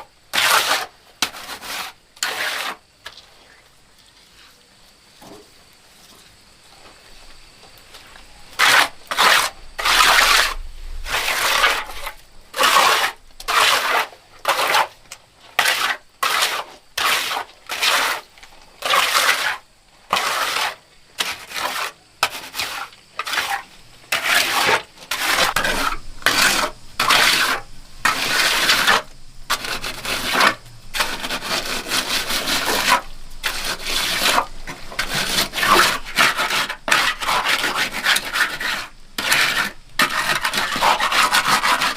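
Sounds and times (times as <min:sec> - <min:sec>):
hand tool rasping scrape: 0:00.3 - 0:02.8, 0:08.6 - 0:41.9.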